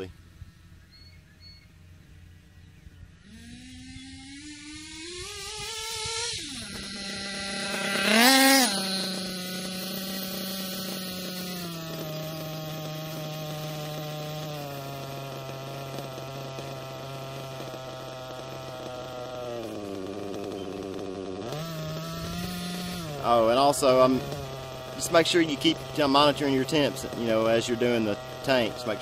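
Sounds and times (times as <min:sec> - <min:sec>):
nitro engine revving and idling: 0:00.0 - 0:29.0.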